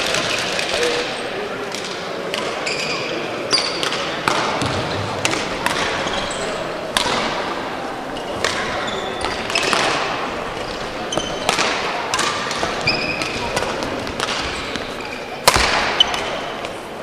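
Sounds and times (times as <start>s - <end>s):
rackets hitting shuttlecock: 0.0s - 16.9s
shoes squeaking on court: 2.6s - 11.6s, 12.2s - 16.8s.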